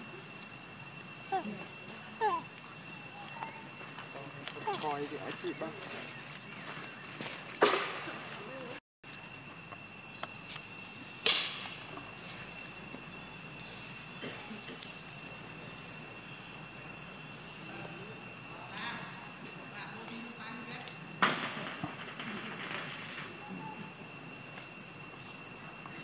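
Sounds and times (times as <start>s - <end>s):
insects buzzing: 0.0s - 26.0s
outdoor background noise: 0.0s - 26.0s.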